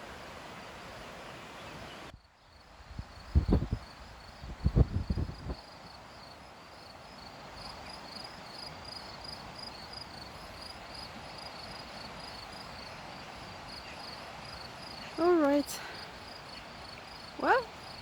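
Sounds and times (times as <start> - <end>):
background hiss: 0.0 - 18.0
crickets chirping: 0.2 - 18.0.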